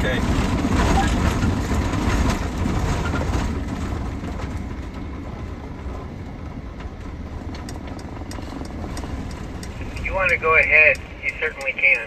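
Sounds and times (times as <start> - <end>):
tyres and engine rumble on gravel: 0.0 - 12.0.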